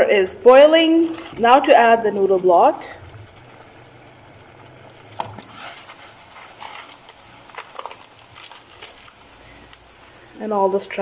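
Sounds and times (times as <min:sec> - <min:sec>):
boiling water bubbling: 0:00.0 - 0:11.0
faint steady hum: 0:00.0 - 0:11.0.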